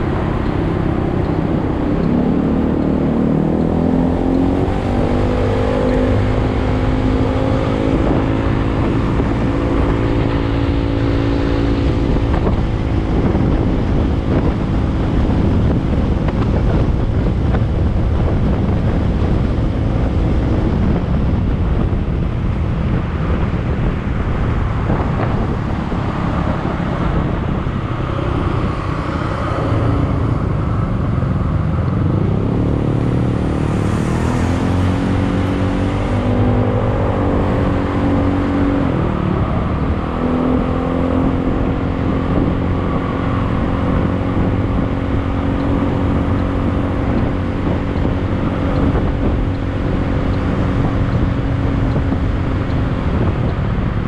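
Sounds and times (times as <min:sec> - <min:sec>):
vehicle engine running: 0:00.0 - 0:54.0
wind noise: 0:00.0 - 0:54.0.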